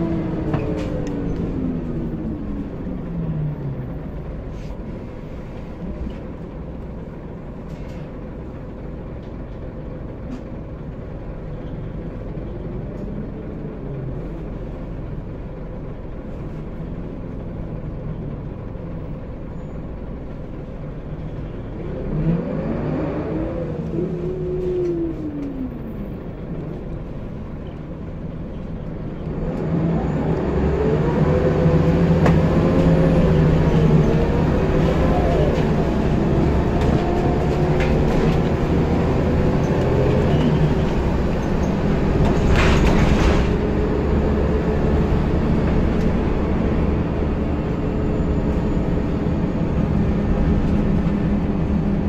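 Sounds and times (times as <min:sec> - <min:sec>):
bus diesel engine revving: 0:00.0 - 0:52.0.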